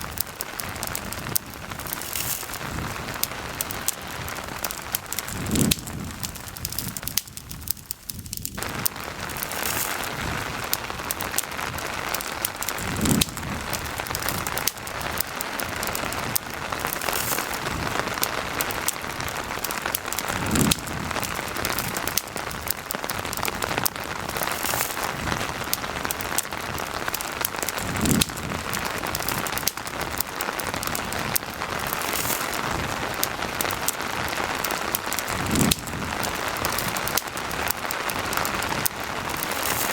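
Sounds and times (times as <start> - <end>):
campfire crackling and popping: 0.0 - 39.9
rain hiss: 0.0 - 39.9.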